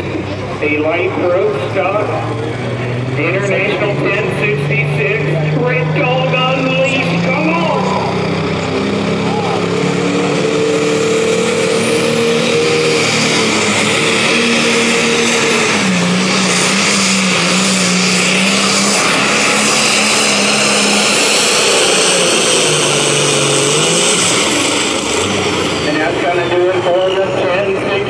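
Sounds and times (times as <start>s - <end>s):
high turbo whine: 0.0s - 28.0s
tractor diesel engine under load: 0.0s - 28.0s.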